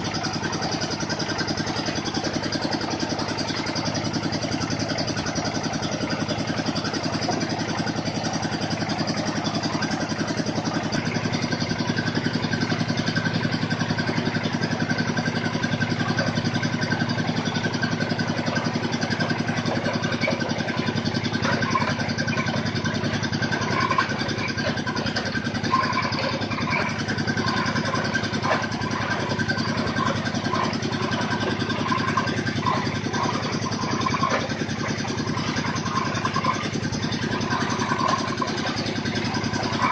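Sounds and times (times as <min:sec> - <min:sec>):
drilling machine engine running: 0:00.0 - 0:39.9.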